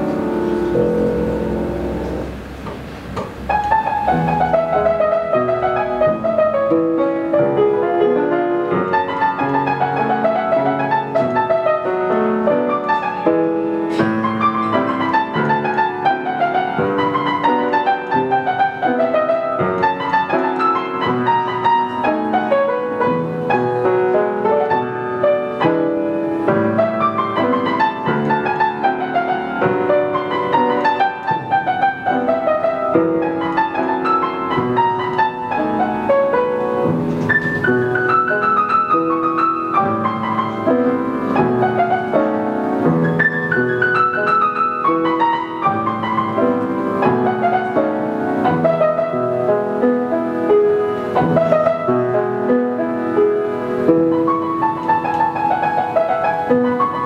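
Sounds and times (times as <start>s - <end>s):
solo piano piece: 0.0s - 57.0s.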